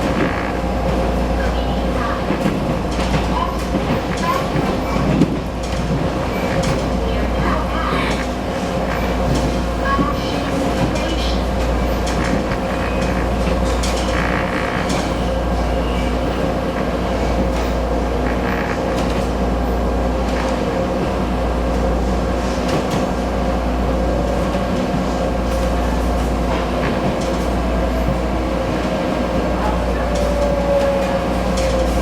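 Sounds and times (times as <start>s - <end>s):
train rumble and hum: 0.0s - 32.0s
wheels clacking on track: 0.0s - 32.0s.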